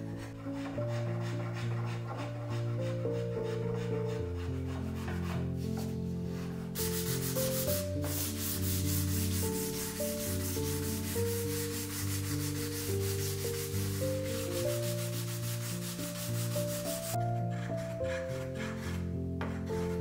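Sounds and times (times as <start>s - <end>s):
background music: 0.0s - 20.0s
sandpaper rubbing on wood: 0.2s - 5.9s, 6.7s - 20.0s.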